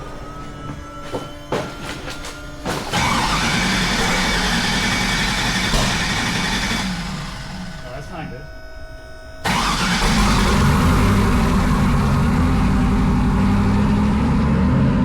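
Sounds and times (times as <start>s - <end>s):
loud engine running: 0.0s - 15.0s.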